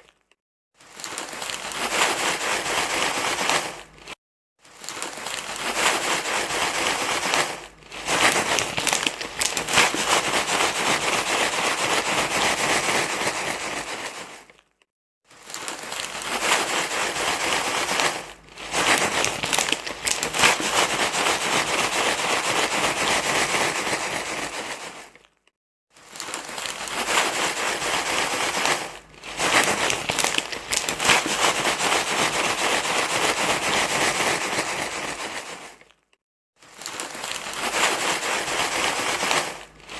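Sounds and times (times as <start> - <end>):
crinkling rustling noise: 0.0 - 39.9.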